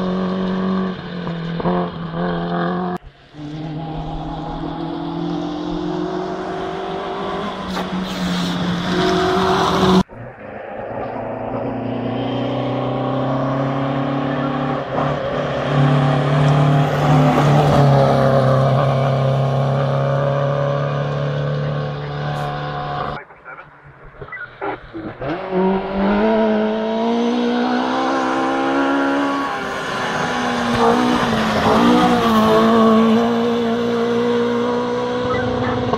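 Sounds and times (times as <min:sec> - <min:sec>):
rally car engine at high revs: 0:00.0 - 0:23.2, 0:24.1 - 0:35.9
rally car engine approaching: 0:00.0 - 0:35.9.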